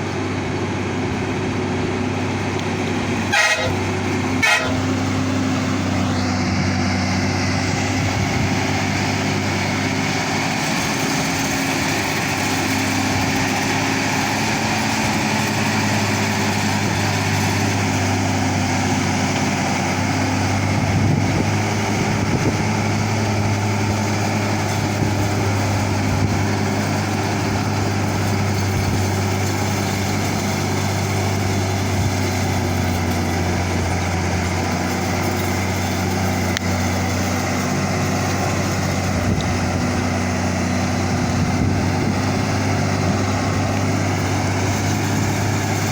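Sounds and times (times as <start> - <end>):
truck diesel engine droning: 0.0 - 45.9.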